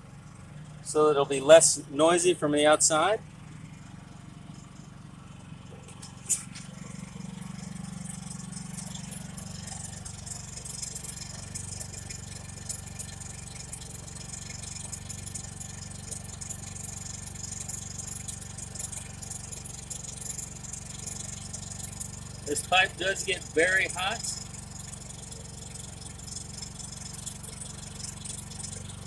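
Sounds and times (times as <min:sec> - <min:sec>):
generator humming with rattle: 0:00.0 - 0:29.0.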